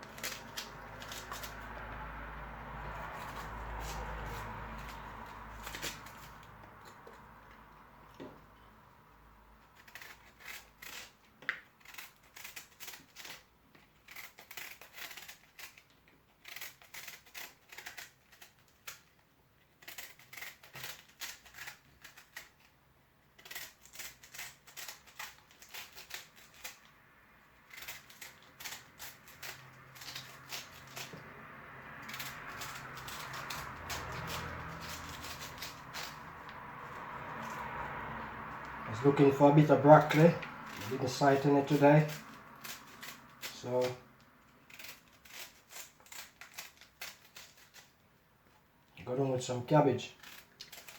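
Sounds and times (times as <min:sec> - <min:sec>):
knife cutting cabbage: 0:00.0 - 0:07.4, 0:09.6 - 0:48.1, 0:49.0 - 0:50.9.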